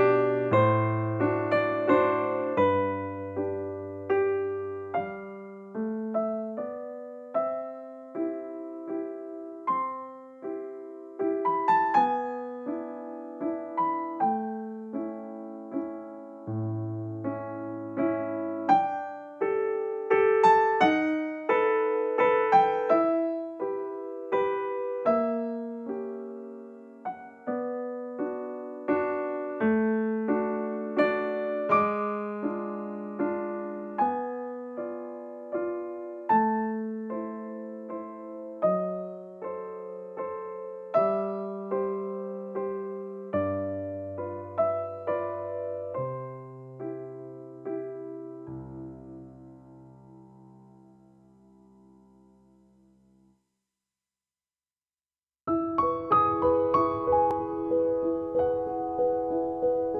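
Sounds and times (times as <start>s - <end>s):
electric piano melody: 0.0s - 52.6s, 55.5s - 59.9s.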